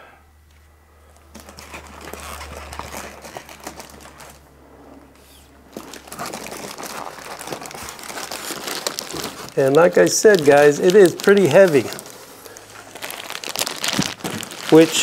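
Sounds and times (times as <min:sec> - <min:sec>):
plastic wrapping crinkling: 0:01.2 - 0:15.0.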